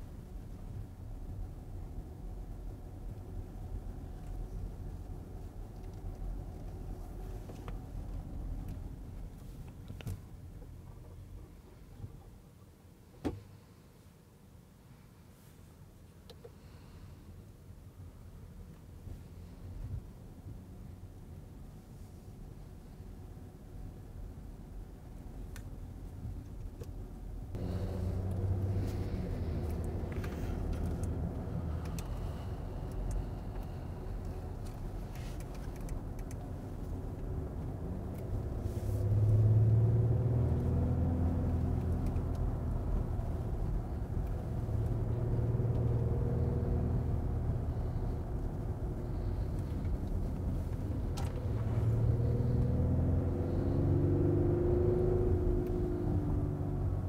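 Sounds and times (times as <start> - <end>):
car drivetrain and road noise: 0.0 - 57.0.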